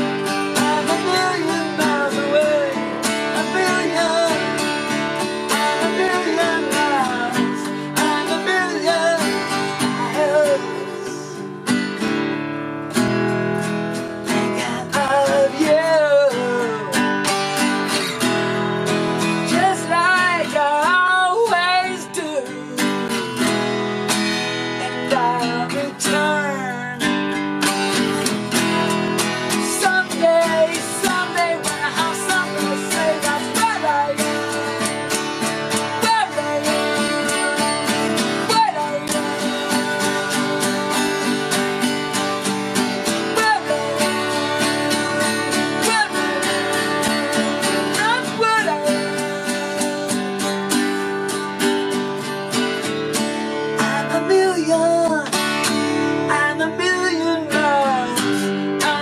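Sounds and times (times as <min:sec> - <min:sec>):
two acoustic guitars strummed: 0:00.0 - 0:59.0.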